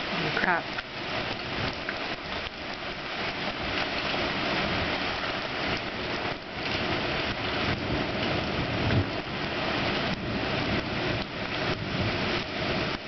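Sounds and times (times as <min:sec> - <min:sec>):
heavy rain pouring: 0:00.0 - 0:13.0
strong wind rushing through trees: 0:00.0 - 0:13.0.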